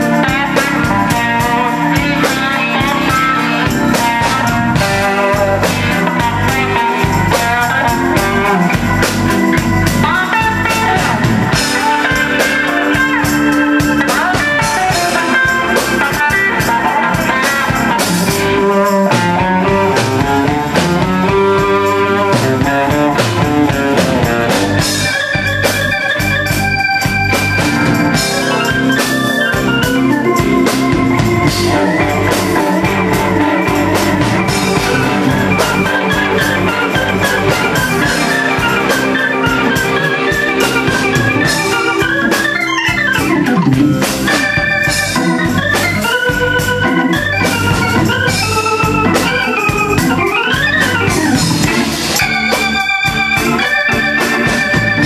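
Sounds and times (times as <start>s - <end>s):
drums: 0.0s - 55.0s
organ keyboard solo: 0.0s - 55.0s.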